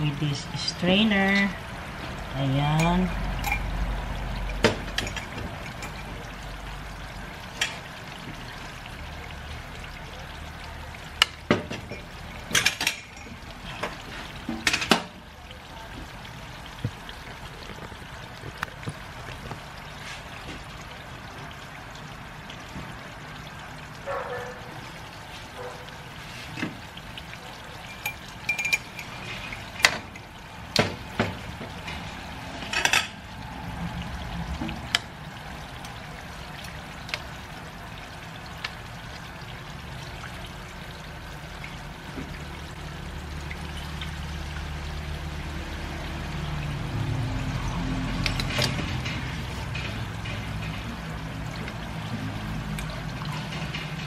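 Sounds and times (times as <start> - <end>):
coconut curds bubbling in oil: 0.0 - 54.0.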